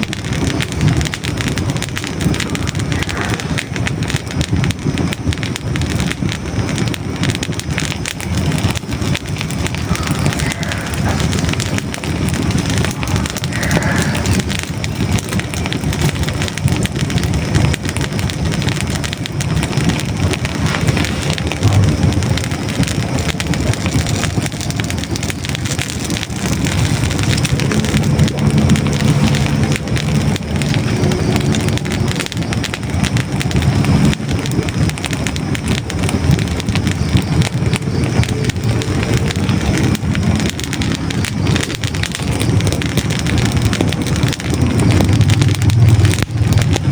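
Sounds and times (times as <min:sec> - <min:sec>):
crackling and popping logs: 0:00.0 - 0:46.9
fire burning in fireplace: 0:00.0 - 0:46.9.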